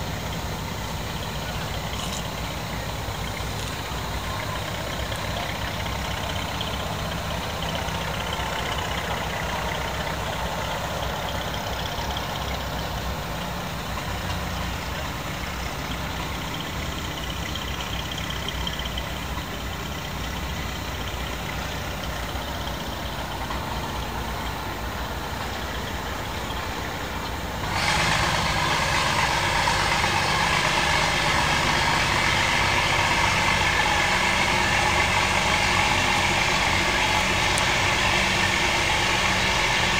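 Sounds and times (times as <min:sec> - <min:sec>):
engine idling hum: 0:00.0 - 0:39.9.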